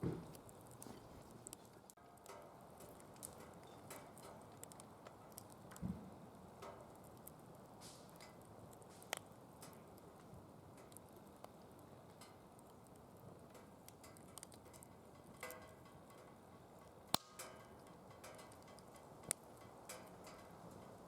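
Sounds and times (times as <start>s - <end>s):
firewood burning with pops: 0.0s - 21.0s.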